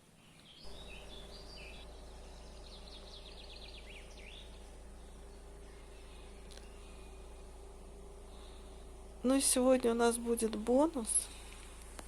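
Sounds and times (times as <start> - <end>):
songbird singing: 0.0 - 12.0
steady low hum: 0.0 - 12.0.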